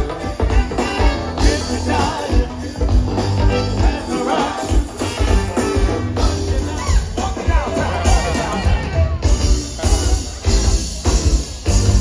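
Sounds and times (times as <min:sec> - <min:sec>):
funk band playing: 0:00.0 - 0:12.0.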